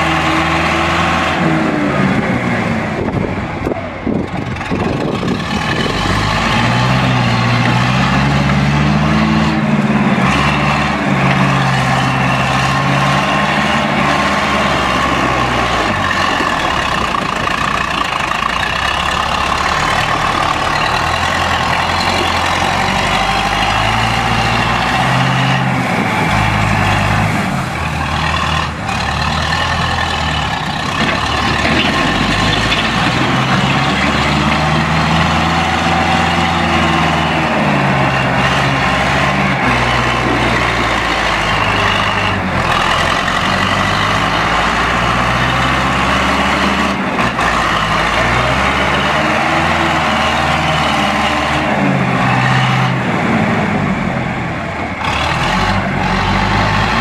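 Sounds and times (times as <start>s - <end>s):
backhoe loader engine running: 0.0s - 57.0s.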